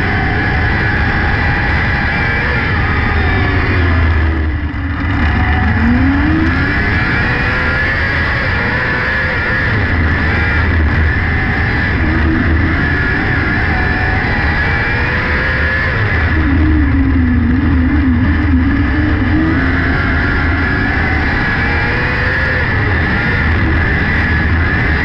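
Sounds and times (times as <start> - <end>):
racing car engine: 0.0 - 25.0.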